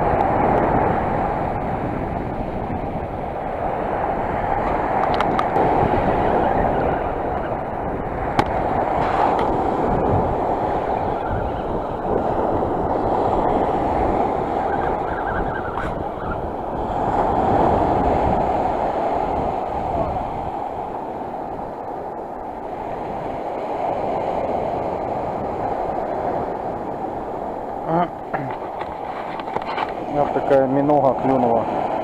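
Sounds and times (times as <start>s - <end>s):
sea surf washing on shore: 0.0s - 32.0s
wind buffeting microphone: 0.0s - 32.0s.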